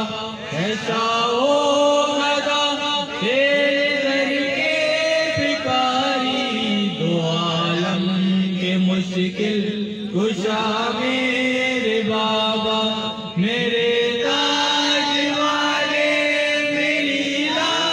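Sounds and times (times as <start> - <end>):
men chanting devotional song: 0.0 - 17.9.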